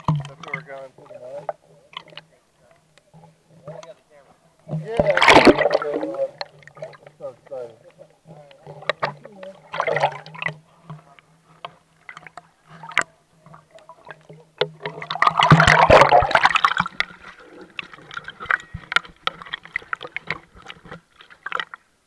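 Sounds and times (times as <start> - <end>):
muffled underwater sloshing: 0.0 - 22.0.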